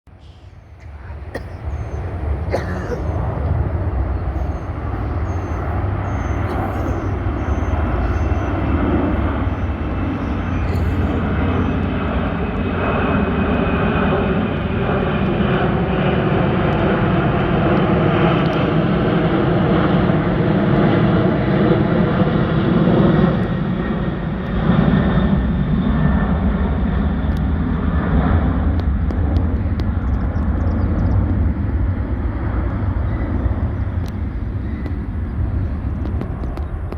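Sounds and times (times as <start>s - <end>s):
jet engines roaring overhead: 0.1s - 36.9s.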